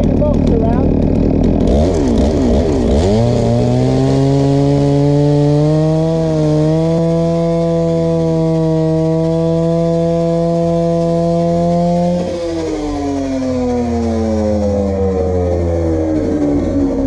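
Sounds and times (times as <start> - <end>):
chainsaw cutting log: 0.0 - 17.0.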